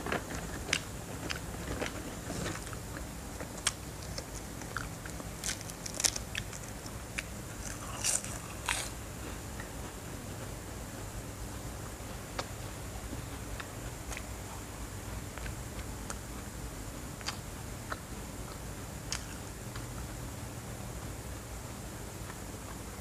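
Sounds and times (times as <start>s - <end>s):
crunchy snack being chewed: 0.0s - 16.5s, 17.2s - 20.1s.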